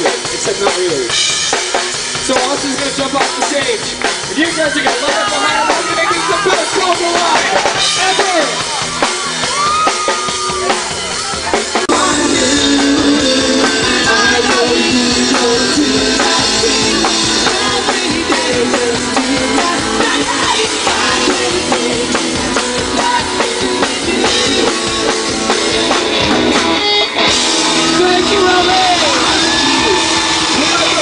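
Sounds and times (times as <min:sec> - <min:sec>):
drum kit beat: 0:00.0 - 0:31.0
live rock band playing: 0:00.0 - 0:31.0.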